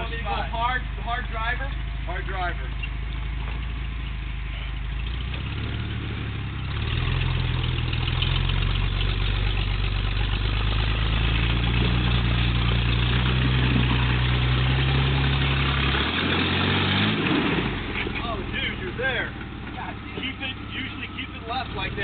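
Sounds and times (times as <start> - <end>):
vehicle engine revving under load: 0.0 - 22.0.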